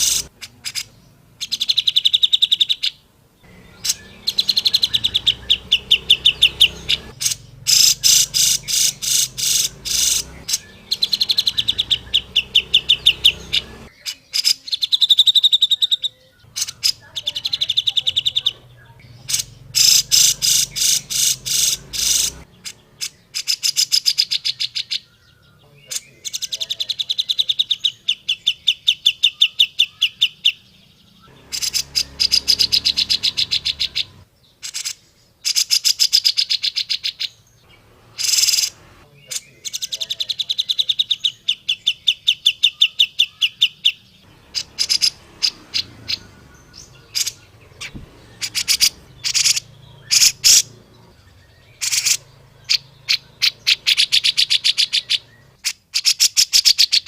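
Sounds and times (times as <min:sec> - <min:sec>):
single bird calls: 0:00.0 - 0:30.6, 0:31.2 - 0:57.0
bulbul chattering song: 0:00.0 - 0:57.0.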